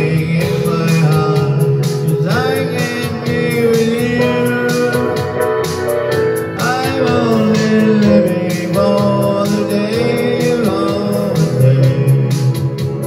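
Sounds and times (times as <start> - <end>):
electronic keyboard with beat: 0.0 - 13.0
man singing: 0.0 - 13.0.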